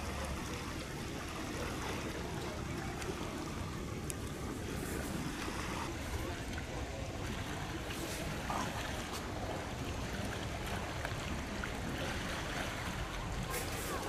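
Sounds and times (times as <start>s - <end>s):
water lapping against a pier: 0.0s - 14.0s.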